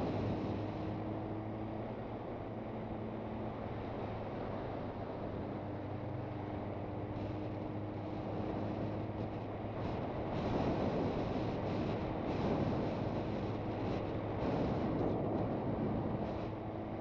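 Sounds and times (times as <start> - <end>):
wind rushing over microphone: 0.0 - 2.0, 2.8 - 17.0.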